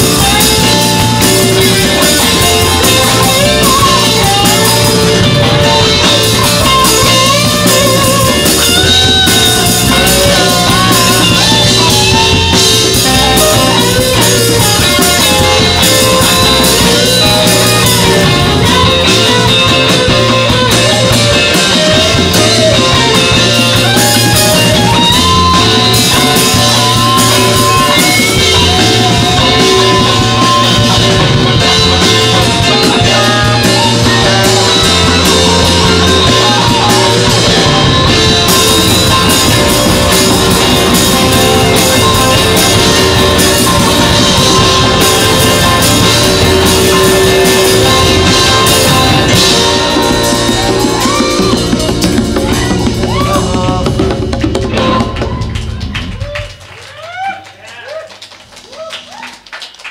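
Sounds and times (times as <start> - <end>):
electric bass: 0.0 - 57.3
drum kit: 0.0 - 58.6
electric guitar: 0.0 - 59.9.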